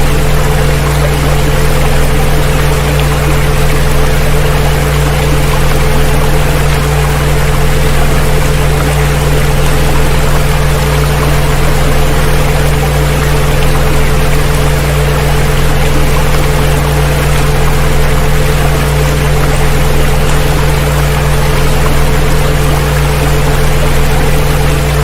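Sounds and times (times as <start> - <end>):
low electronic drone tones: 0.0 - 25.0
water noise: 0.0 - 25.0.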